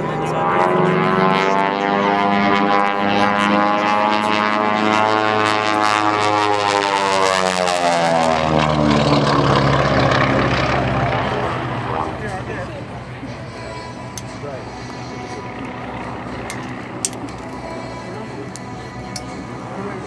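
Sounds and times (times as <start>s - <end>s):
twin propeller plane engines: 0.0s - 20.0s.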